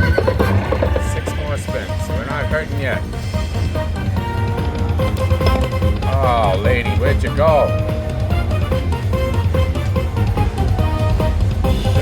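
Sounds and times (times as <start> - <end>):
slot machine music: 0.0 - 12.0.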